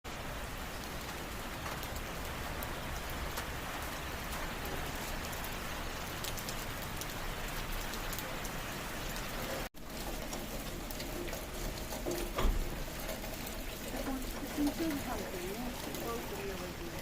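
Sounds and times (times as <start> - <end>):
steady rain falling: 0.0 - 17.0
raindrops ticking on surfaces: 0.1 - 17.0.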